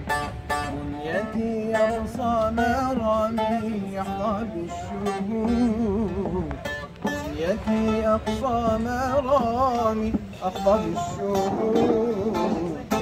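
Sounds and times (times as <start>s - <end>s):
plucked long-necked lute: 0.0s - 13.0s
man singing wordless melody: 0.1s - 13.0s.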